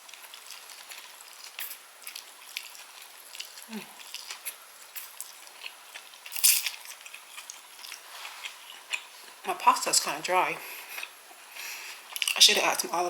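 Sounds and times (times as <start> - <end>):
person chewing: 0.0 - 9.4, 10.6 - 12.4.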